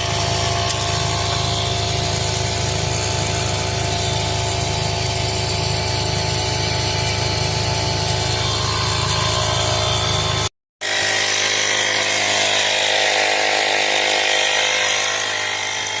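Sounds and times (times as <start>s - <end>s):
power tool running: 0.0s - 16.0s.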